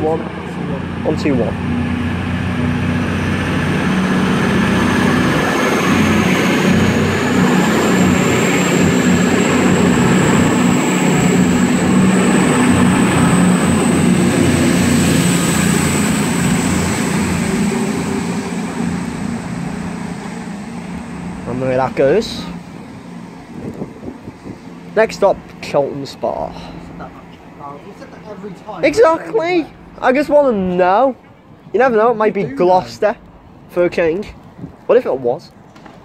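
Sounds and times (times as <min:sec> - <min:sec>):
high whine: 0:00.0 - 0:33.8
diesel train engine: 0:00.0 - 0:34.8.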